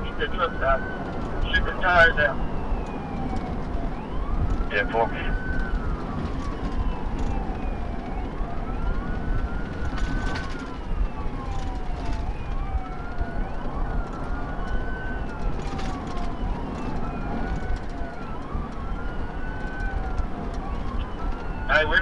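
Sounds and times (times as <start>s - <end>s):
car engine and road noise: 0.0s - 22.0s
police siren wailing: 0.0s - 22.0s
second siren: 0.0s - 22.0s.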